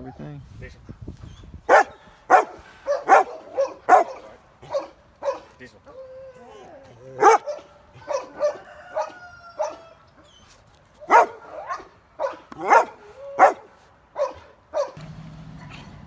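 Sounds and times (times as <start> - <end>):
dog barking and yelping: 1.6 - 15.0.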